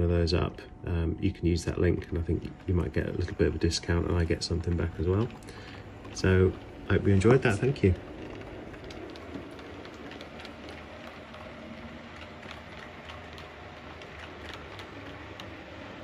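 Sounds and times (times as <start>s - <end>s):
model train running: 0.0s - 16.0s.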